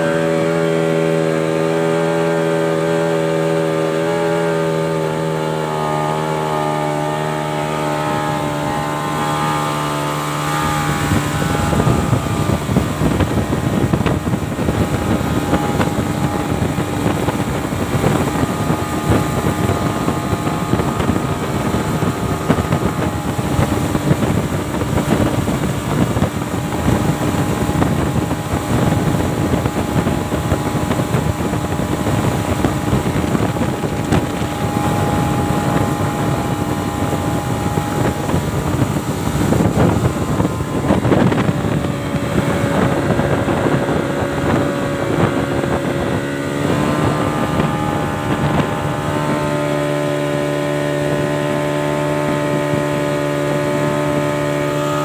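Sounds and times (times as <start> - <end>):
outboard motor running: 0.0 - 55.0
wind and water rushing: 0.0 - 55.0.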